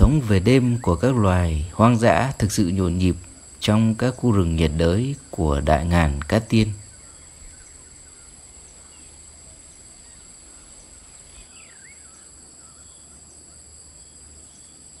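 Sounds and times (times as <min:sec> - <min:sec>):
faint bird chirps: 0:00.0 - 0:15.0
insects singing: 0:00.0 - 0:15.0.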